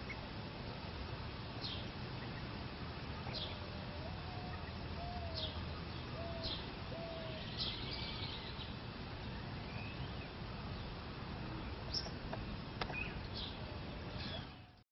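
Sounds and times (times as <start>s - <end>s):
background noise: 0.0s - 14.8s.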